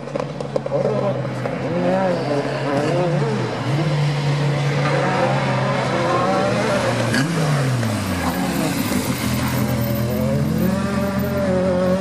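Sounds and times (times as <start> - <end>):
rally car engine revving: 0.1 - 12.0.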